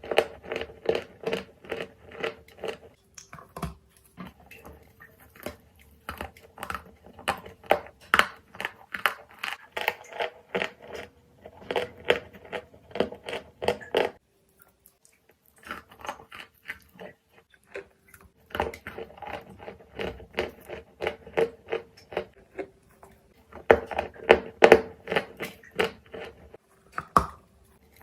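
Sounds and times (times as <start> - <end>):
clay crunching while chewed: 0.0 - 28.0.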